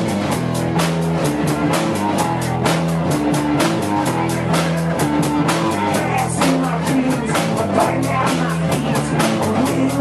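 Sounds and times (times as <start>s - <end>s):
live rock band playing: 0.0s - 10.0s.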